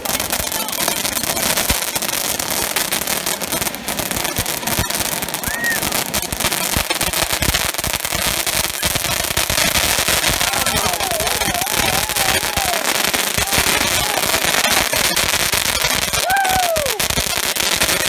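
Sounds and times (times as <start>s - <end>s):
dense crackling of sparks: 0.0s - 18.0s
fireworks fountain hissing: 0.0s - 18.0s.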